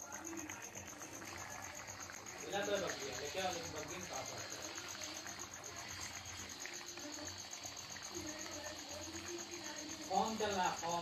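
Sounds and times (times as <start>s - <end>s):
insect high-pitched trill: 0.0s - 11.0s.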